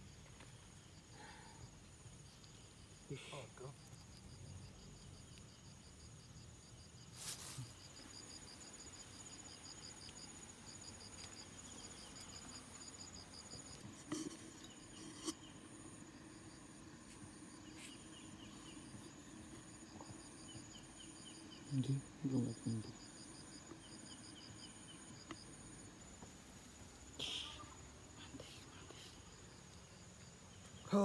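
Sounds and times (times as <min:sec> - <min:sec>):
insects chirping: 0:00.0 - 0:31.0.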